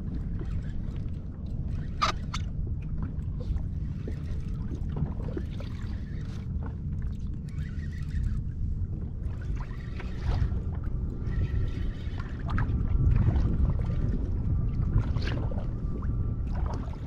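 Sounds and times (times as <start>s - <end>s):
low wind rumble: 0.0s - 17.0s
water lapping against kayak hull: 0.0s - 17.0s.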